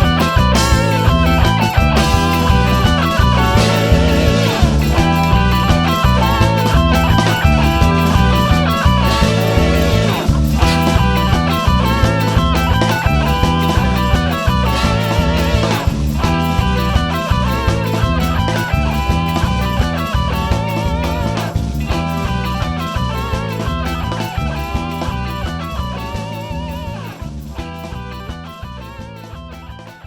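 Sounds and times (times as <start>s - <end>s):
bass: 0.0s - 30.0s
electric guitar lead line: 0.0s - 30.0s
steady drum beat: 0.0s - 30.0s.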